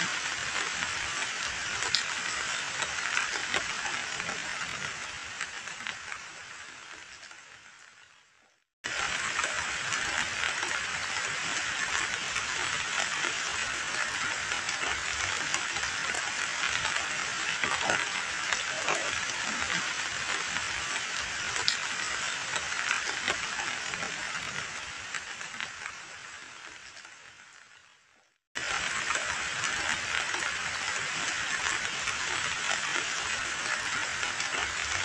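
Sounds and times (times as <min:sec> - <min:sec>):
rain splashing into puddle: 0:00.0 - 0:08.0, 0:08.8 - 0:27.9, 0:28.6 - 0:35.0.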